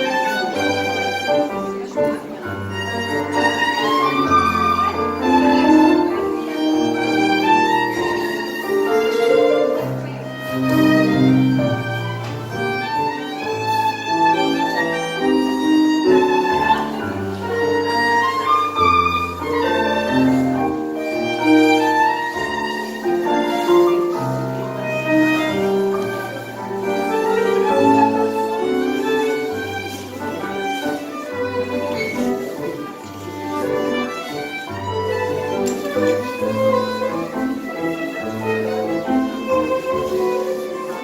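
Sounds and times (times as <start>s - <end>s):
tango ensemble playing: 0.0s - 41.0s
violin melody: 0.0s - 41.0s.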